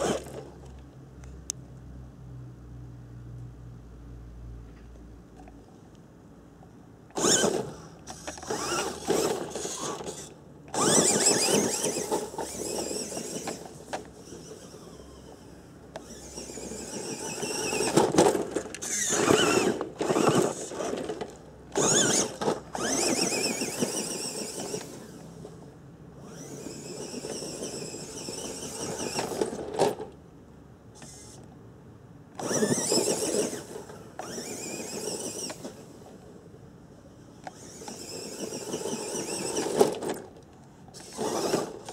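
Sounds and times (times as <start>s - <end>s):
rc truck motor whining: 0.0s - 0.7s, 7.1s - 30.2s, 30.9s - 31.5s, 32.3s - 41.9s.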